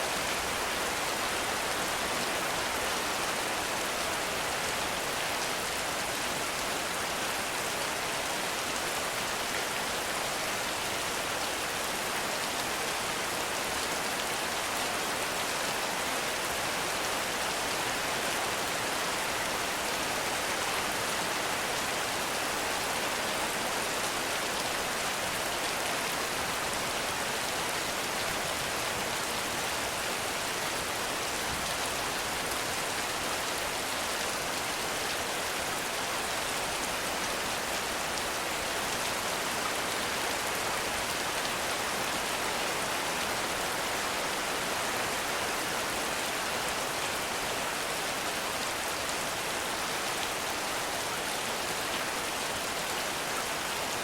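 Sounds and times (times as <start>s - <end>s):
heavy rain in forest: 0.0s - 54.0s.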